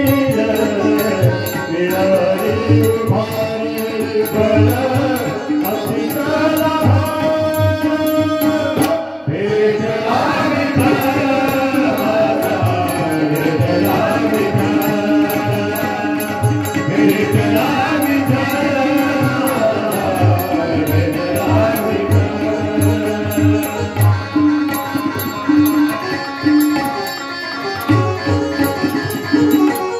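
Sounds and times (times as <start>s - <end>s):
person singing devotional song: 0.0s - 29.9s
tabla-like drum beat: 0.0s - 29.9s.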